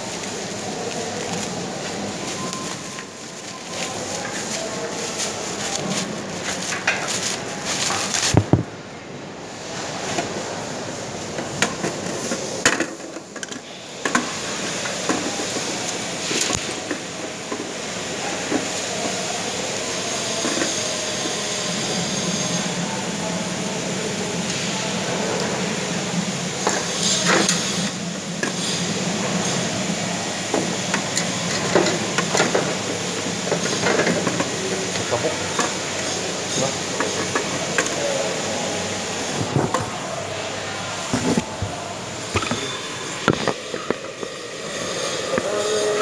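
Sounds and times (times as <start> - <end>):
steady rumbling background noise: 0.0 - 21.5, 22.6 - 46.0.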